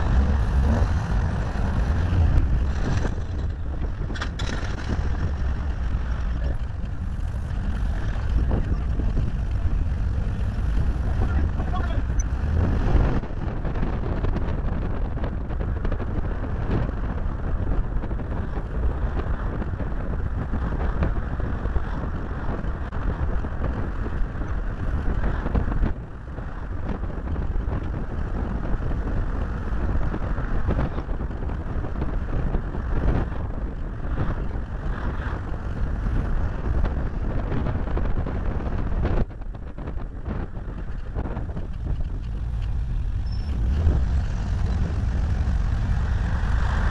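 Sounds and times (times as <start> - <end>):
road noise from moving car: 0.0 - 46.9
wind buffeting microphone: 0.0 - 46.9.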